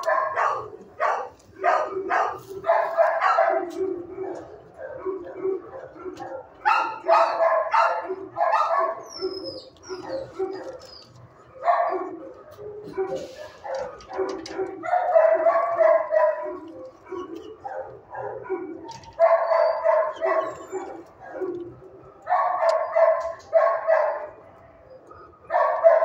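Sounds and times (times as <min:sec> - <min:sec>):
dogs barking: 0:00.0 - 0:26.0.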